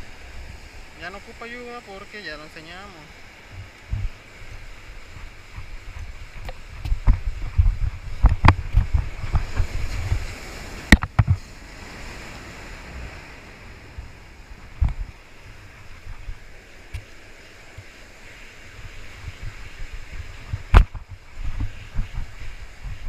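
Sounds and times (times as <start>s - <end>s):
wind rumbling on microphone: 0.0s - 1.5s, 2.7s - 23.0s
surf washing over rocks: 0.0s - 23.0s.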